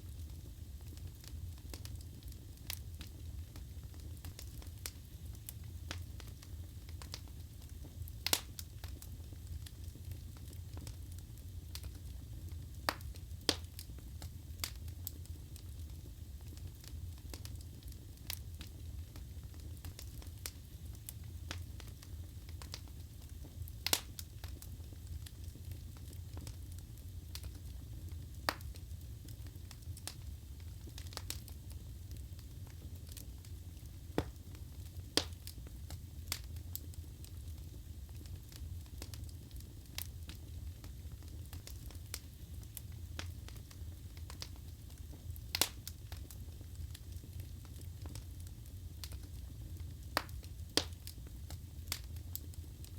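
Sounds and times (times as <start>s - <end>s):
burning logs crackling and popping: 0.0s - 52.9s
low rumble of flames: 0.0s - 52.9s.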